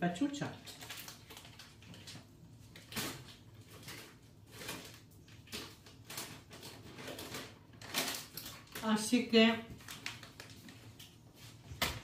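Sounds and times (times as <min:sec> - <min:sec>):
faint kitchen rustles and knocks: 0:00.2 - 0:12.0.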